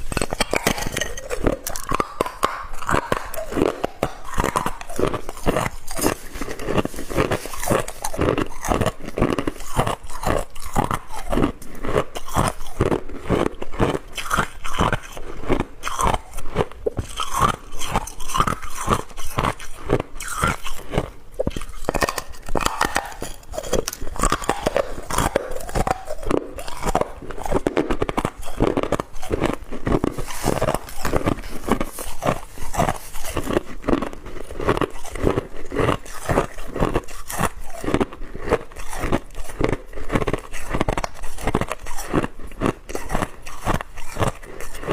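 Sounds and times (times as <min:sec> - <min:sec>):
ice crunching being chewed: 0:00.0 - 0:44.9.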